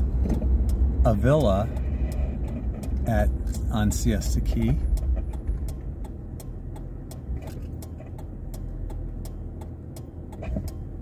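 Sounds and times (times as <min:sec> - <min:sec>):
car engine idling: 0:00.0 - 0:11.0
turn signal ticking: 0:00.0 - 0:11.0.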